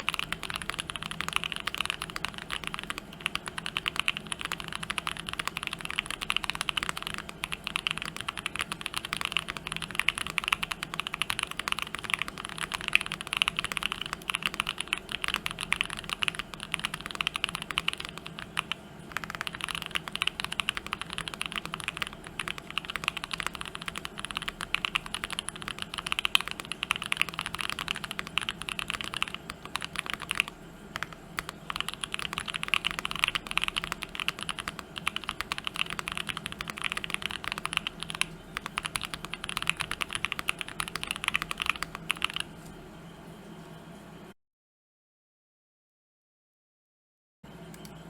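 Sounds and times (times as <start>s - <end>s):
mechanical keyboard typing: 0.0s - 42.5s.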